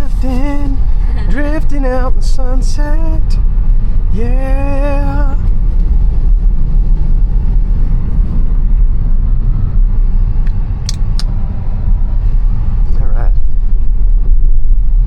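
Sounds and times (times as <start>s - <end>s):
tyres and road noise rumble: 0.0s - 15.0s.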